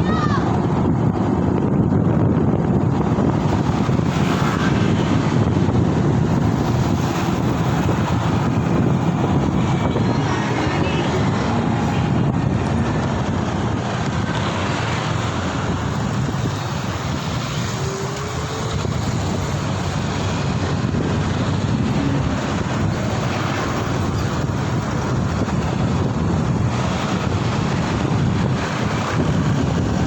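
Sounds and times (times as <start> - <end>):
road noise in traffic: 0.0 - 30.0
wind rushing over microphone: 0.0 - 30.0.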